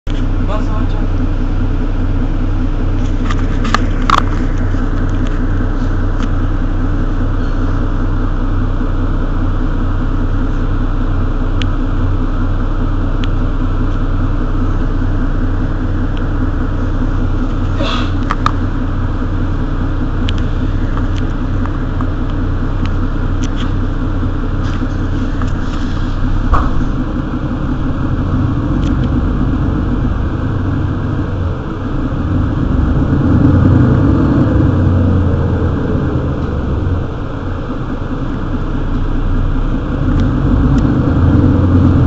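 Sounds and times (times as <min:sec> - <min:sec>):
diesel bus engine idling: 0:00.0 - 0:42.0.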